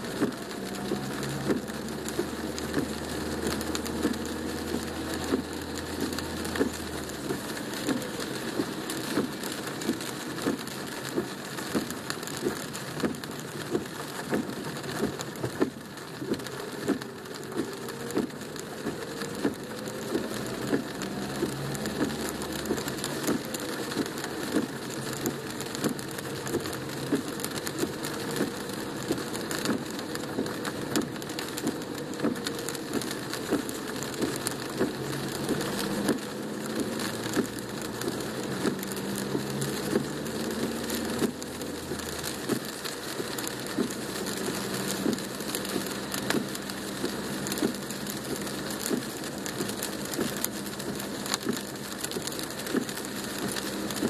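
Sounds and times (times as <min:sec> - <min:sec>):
rain drumming on a car roof: 0:00.0 - 0:54.0.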